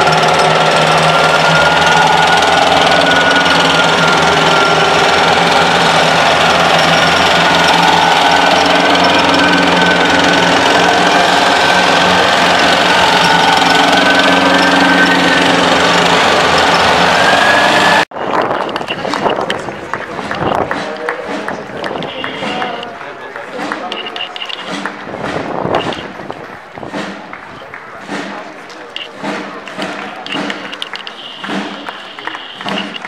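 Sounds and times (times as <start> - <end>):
diesel engines running: 0.0 - 33.0
steel tracks clattering on road: 0.0 - 33.0.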